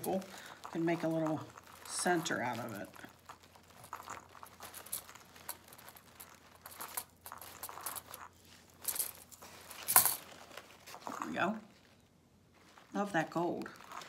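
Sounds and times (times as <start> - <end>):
sharp crackle: 0.0 - 14.0
wired ribbon crinkling: 0.0 - 14.0.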